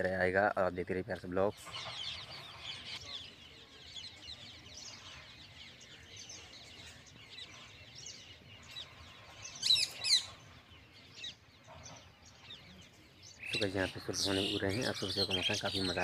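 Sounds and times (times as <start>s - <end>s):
birds chirping: 0.0s - 16.0s
sharp bird calls: 0.0s - 16.0s.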